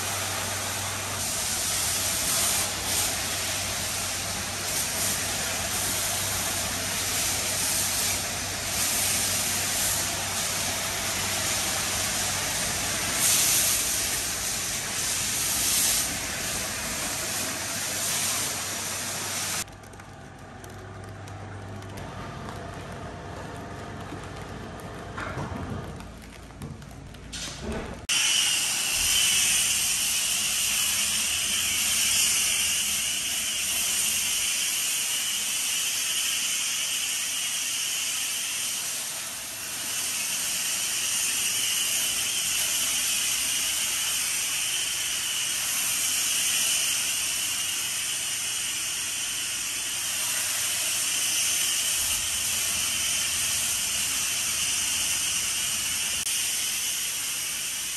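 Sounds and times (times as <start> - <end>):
pressure washer jet hissing: 0.0 - 19.6, 27.4 - 57.9.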